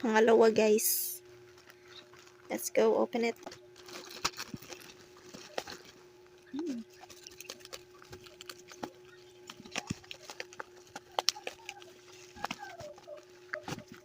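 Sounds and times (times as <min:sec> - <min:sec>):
packaging crinkling and tearing: 0:01.5 - 0:02.5, 0:03.4 - 0:14.0.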